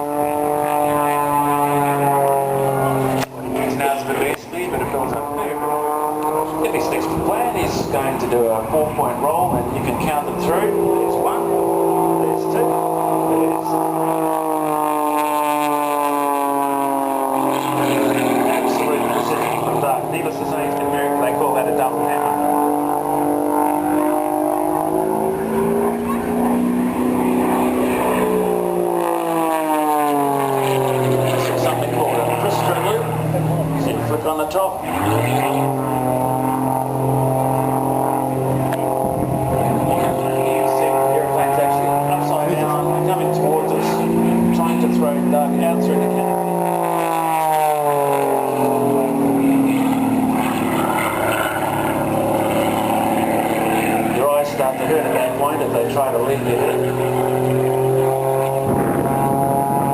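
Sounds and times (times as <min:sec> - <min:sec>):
propeller plane engine: 0:00.0 - 0:59.9.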